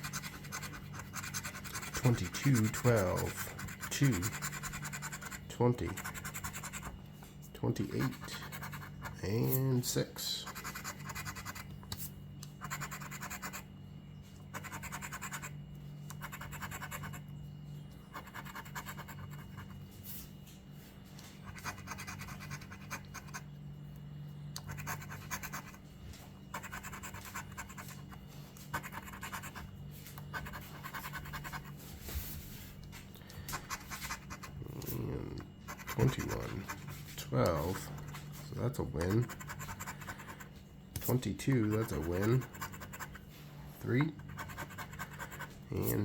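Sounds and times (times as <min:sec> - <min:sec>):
lottery ticket being scratched: 0:00.0 - 0:13.7, 0:14.5 - 0:17.2, 0:18.1 - 0:20.2, 0:21.4 - 0:23.4, 0:24.6 - 0:25.8, 0:26.5 - 0:31.9, 0:33.5 - 0:46.0
low hum: 0:00.0 - 0:46.0.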